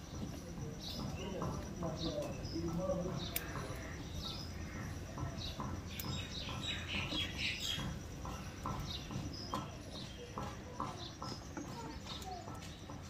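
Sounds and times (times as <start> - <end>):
birds chirping higher: 0.0 - 13.0.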